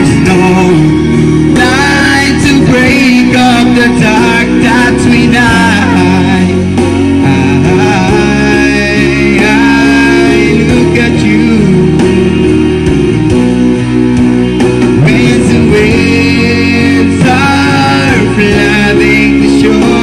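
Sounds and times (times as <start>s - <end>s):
person singing: 0.0s - 12.9s, 14.8s - 20.0s
pop ballad backing track with guitar: 0.0s - 20.0s.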